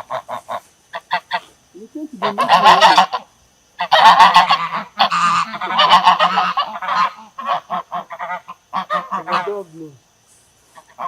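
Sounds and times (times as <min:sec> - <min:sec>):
large birds calling harshly: 0:00.0 - 0:11.0.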